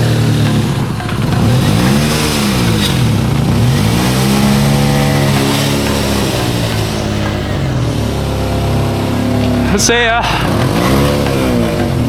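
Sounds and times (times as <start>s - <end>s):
car engine revving roughly: 0.0s - 12.0s.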